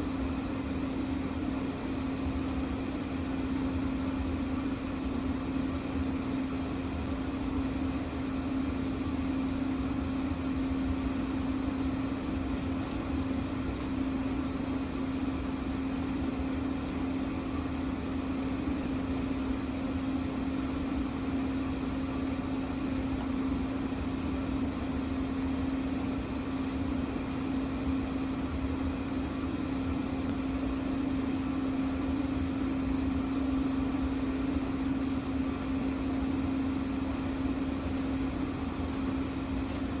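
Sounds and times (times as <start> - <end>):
gas boiler humming: 0.0 - 40.0.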